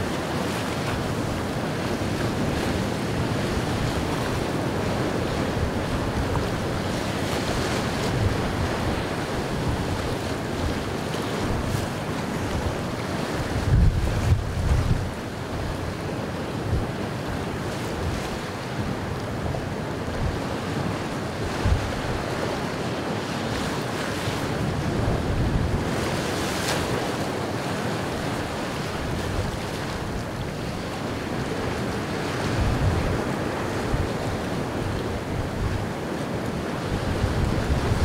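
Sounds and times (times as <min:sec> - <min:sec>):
waves breaking and surf rushing: 0:00.0 - 0:38.0
wind buffeting microphone: 0:00.0 - 0:38.0.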